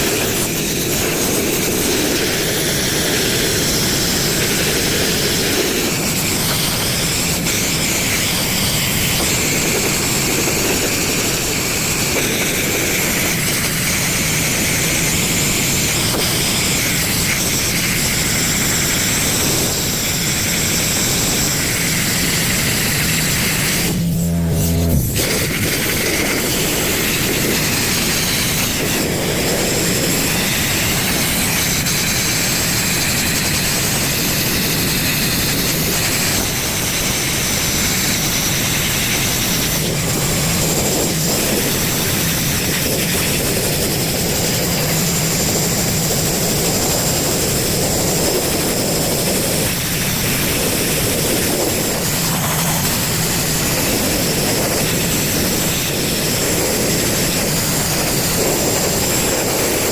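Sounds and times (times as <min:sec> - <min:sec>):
sandblaster rush of air and grit: 0:00.0 - 0:59.9.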